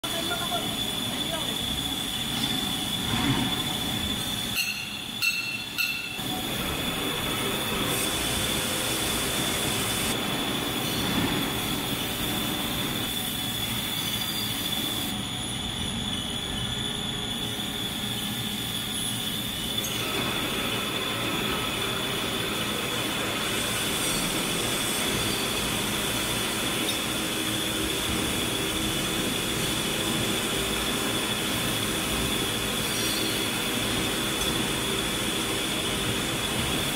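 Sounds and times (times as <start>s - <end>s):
machinery running with high whine: 0.0s - 36.9s.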